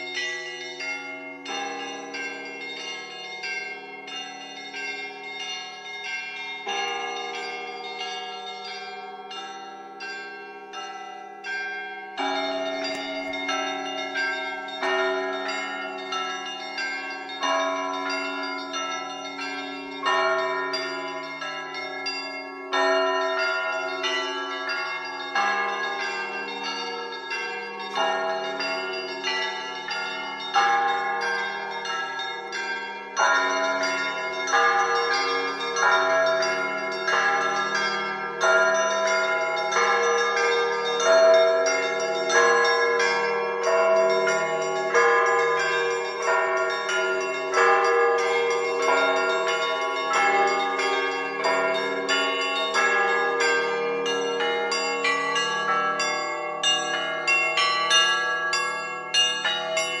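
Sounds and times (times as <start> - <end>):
small bells chiming: 0.0 - 60.0.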